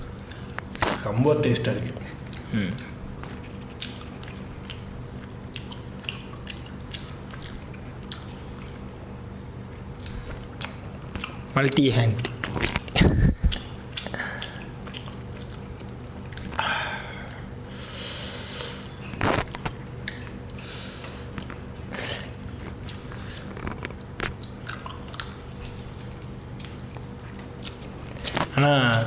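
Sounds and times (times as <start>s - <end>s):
person chewing meat: 0.0s - 11.6s, 12.2s - 29.0s
steady low hum: 0.0s - 29.0s.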